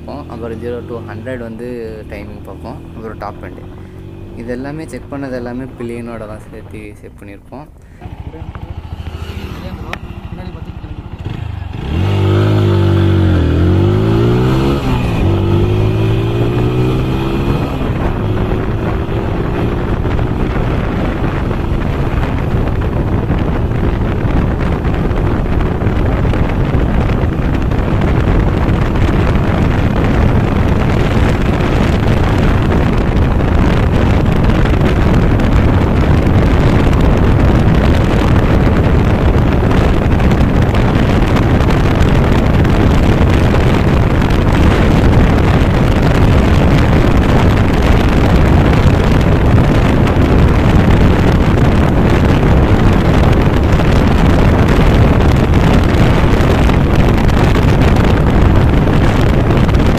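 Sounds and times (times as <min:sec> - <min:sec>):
motorcycle engine at full throttle: 0:00.0 - 0:07.1, 0:07.8 - 0:59.9
wind rushing over microphone: 0:00.0 - 0:59.9.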